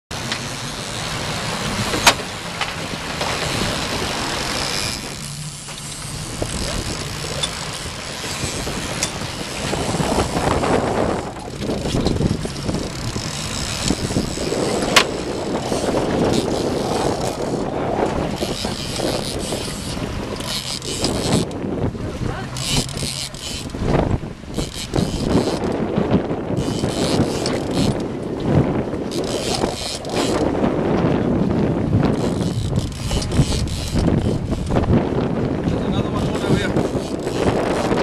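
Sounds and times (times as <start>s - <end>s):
choppy sea: 0.1s - 38.0s
wind: 0.1s - 38.0s.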